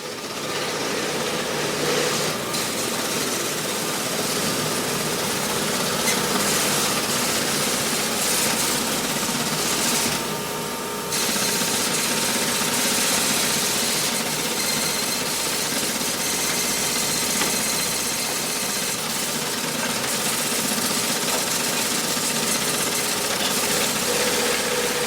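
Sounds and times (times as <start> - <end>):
office printer running: 0.0 - 25.0.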